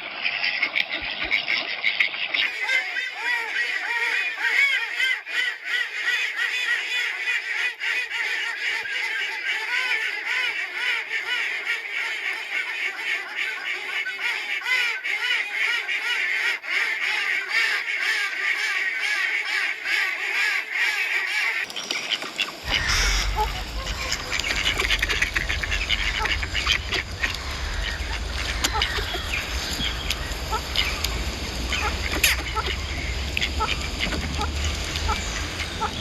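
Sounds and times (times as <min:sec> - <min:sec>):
flock of ducks quacking: 0:00.0 - 0:36.0.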